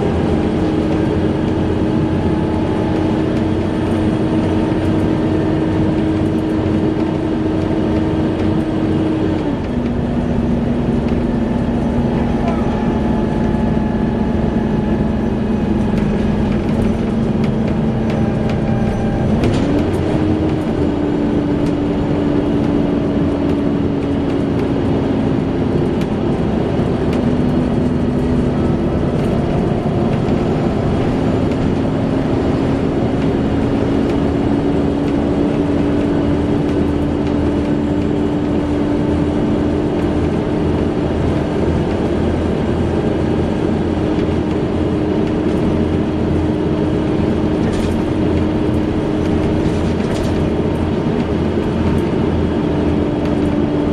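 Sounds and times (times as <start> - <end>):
bus cooling fan whine: 0.0 - 53.9
bus engine running: 0.0 - 53.9.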